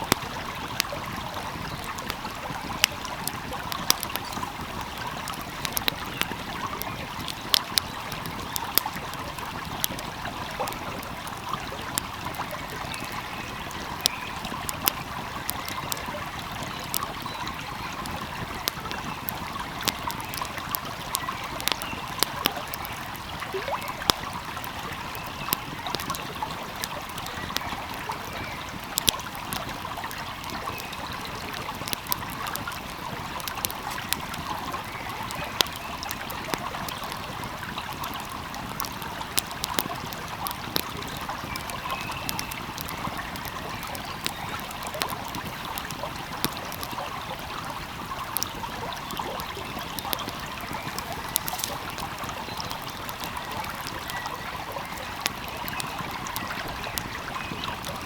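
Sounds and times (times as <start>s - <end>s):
flowing stream: 0.0s - 58.0s
wood fire crackling: 0.0s - 58.0s.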